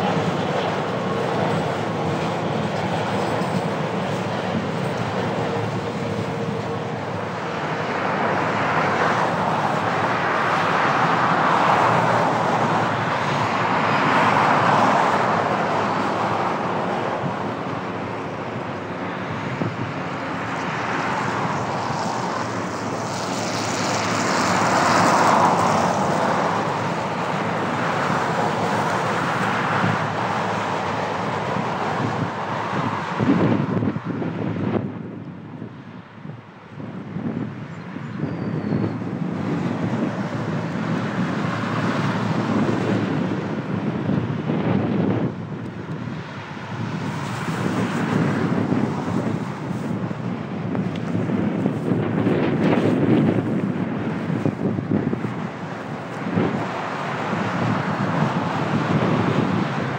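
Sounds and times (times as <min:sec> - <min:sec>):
road traffic passing: 0:00.0 - 0:59.9
steady outdoor rumble: 0:00.0 - 0:59.9.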